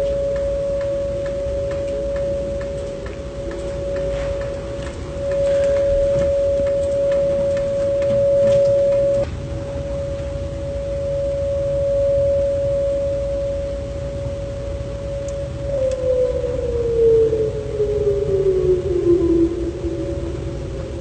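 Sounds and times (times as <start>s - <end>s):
low background rumble: 0.0s - 21.0s
siren steady high tone: 0.0s - 21.0s.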